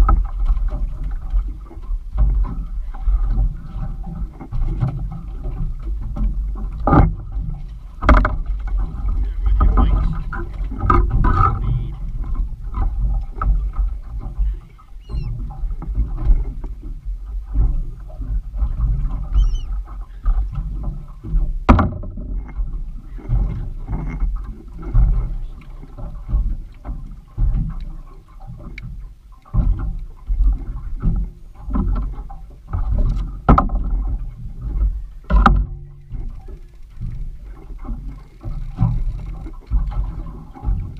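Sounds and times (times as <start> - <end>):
water sloshing against boat hull: 0.0 - 40.9
knocks on boat: 3.3 - 19.7, 20.3 - 37.2, 37.8 - 40.9.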